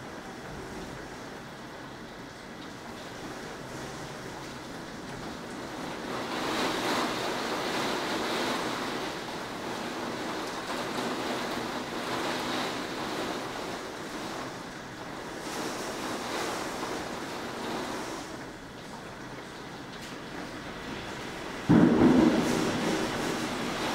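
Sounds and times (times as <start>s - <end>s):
heavy wind-driven rain: 0.0s - 23.9s.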